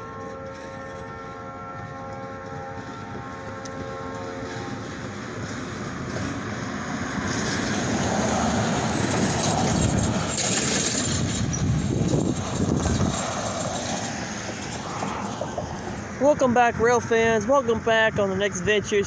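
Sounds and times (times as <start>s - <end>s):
freight cars rolling past: 0.0s - 19.0s.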